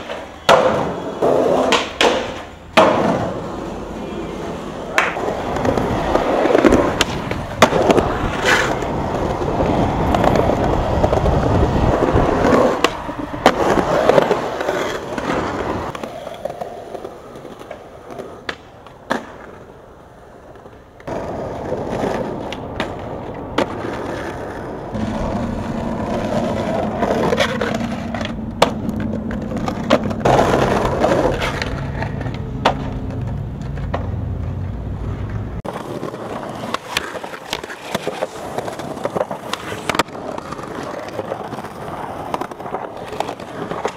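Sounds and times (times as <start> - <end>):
skateboard clacks: 0.0 - 43.9
skateboard wheels rolling on concrete: 0.0 - 43.9.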